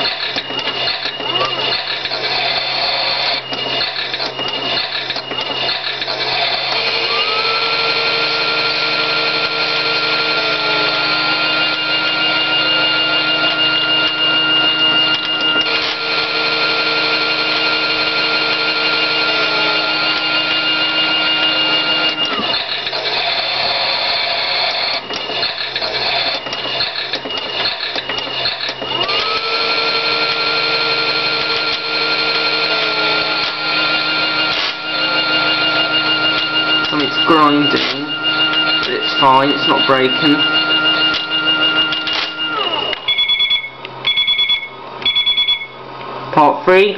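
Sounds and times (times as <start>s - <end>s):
grinding rattle: 0.0s - 7.4s, 8.3s - 42.6s
toy washing machine motor whining: 0.0s - 45.6s.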